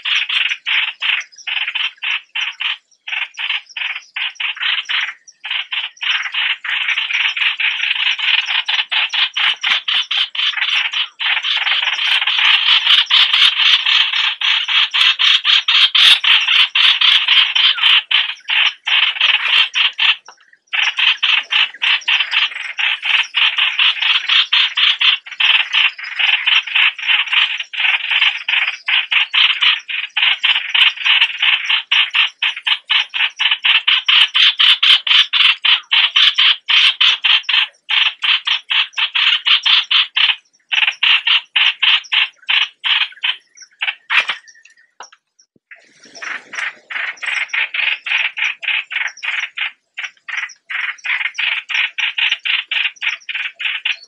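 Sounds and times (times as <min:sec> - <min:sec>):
bulbuls calling: 0:00.0 - 0:54.0.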